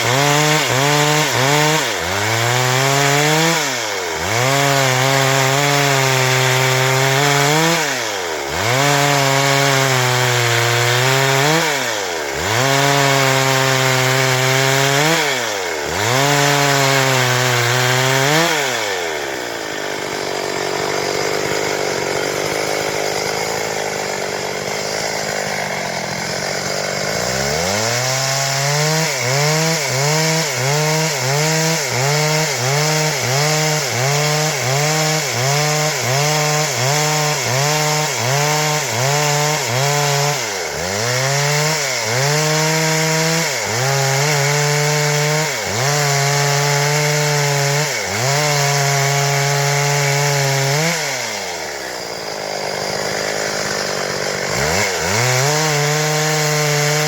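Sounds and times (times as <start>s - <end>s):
chain rasping through wood: 0.0s - 57.0s
chainsaw cutting wood: 0.0s - 57.0s.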